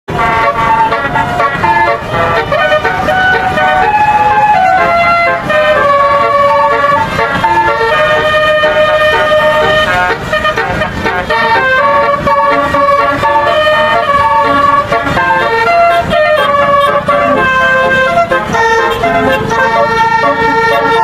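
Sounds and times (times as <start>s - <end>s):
bus horn playing a melody: 0.1s - 21.0s.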